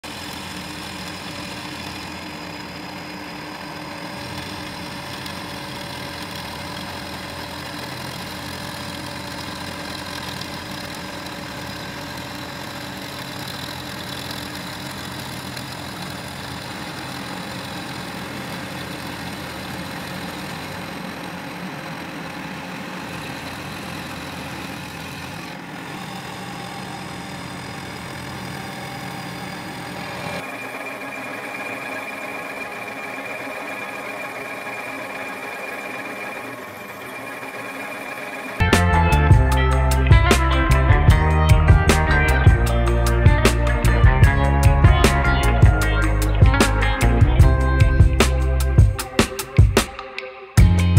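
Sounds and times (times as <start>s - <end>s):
milling machine hum: 0.0s - 50.0s
sustained high machine tones: 0.0s - 50.9s.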